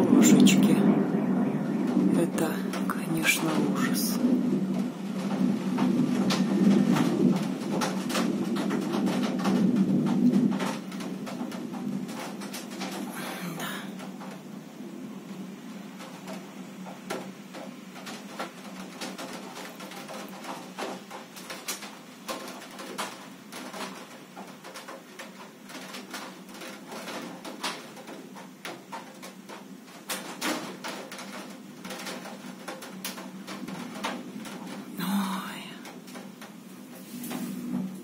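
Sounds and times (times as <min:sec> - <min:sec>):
hiss of heavy rain: 0:00.0 - 0:38.0
raindrops tapping on glass: 0:00.0 - 0:38.0.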